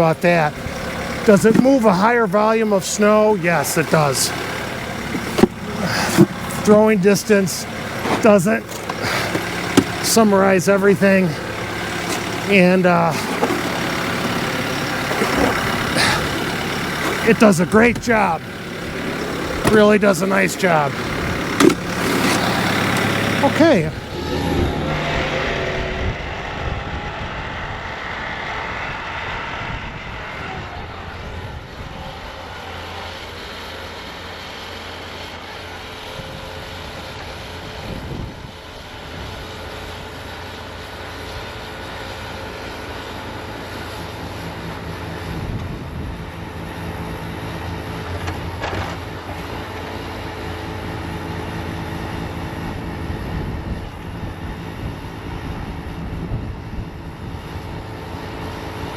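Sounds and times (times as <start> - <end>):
diesel engine running: 0.0 - 58.9
snowblower working: 0.0 - 58.9.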